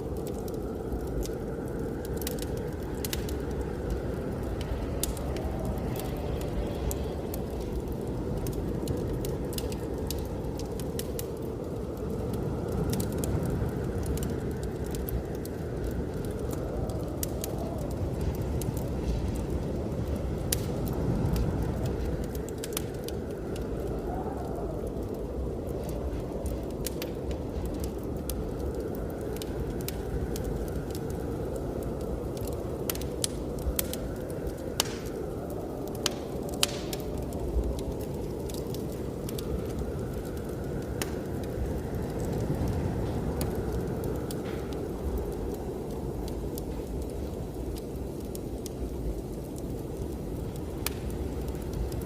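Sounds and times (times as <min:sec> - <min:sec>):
blizzard wind howling: 0:00.0 - 0:52.0
wood fire crackling and popping: 0:00.0 - 0:52.0.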